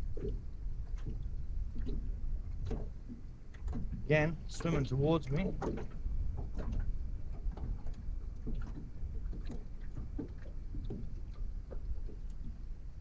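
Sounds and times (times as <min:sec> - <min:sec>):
water splashes: 0:00.0 - 0:13.0.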